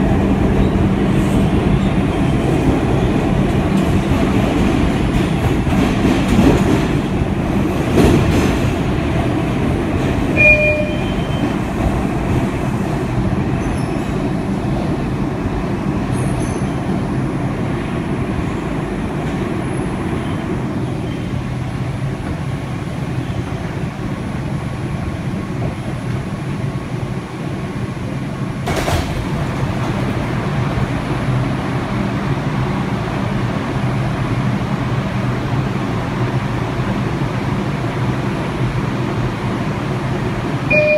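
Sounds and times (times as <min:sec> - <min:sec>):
subway wheels rumbling on rails: 0:00.0 - 0:40.9.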